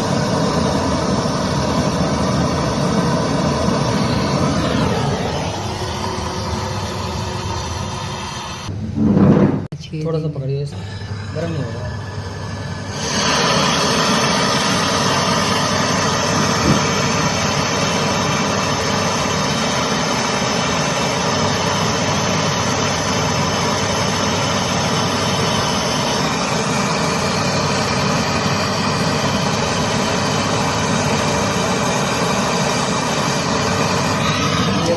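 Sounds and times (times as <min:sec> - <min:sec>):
machine humming and hissing: 0:00.0 - 0:08.8, 0:10.7 - 0:34.9.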